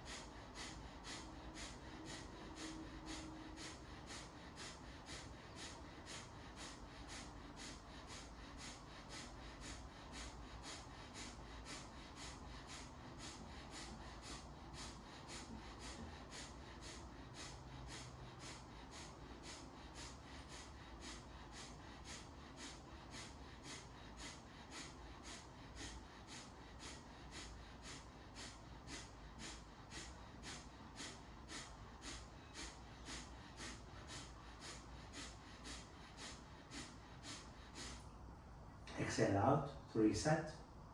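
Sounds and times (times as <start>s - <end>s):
forceful nasal exhalations: 0.0s - 38.2s.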